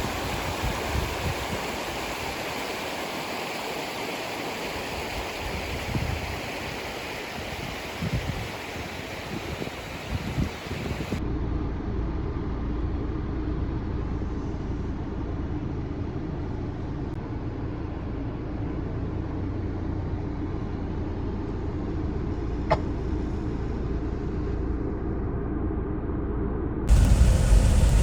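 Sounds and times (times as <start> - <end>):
car road and engine rumble: 4.9 - 28.0.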